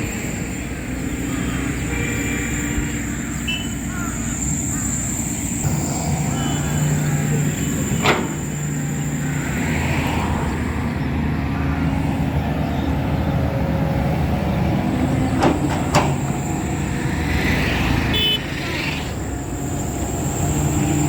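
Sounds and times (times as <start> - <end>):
road traffic engines: 0.0 - 21.0.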